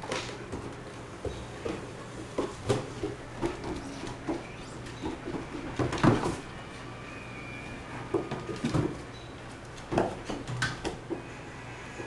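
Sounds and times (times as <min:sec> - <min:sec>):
animals scuffling on wooden floor: 0:00.0 - 0:12.0.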